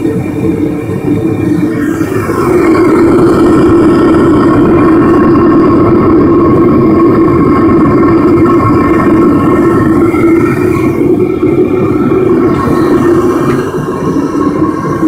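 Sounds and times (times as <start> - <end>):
gas burner roaring: 0.0 - 15.0.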